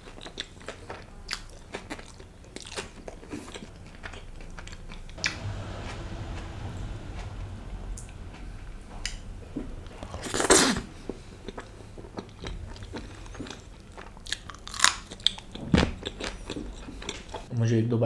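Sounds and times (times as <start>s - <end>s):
close chewing crackles: 0.0s - 6.5s, 9.0s - 17.5s.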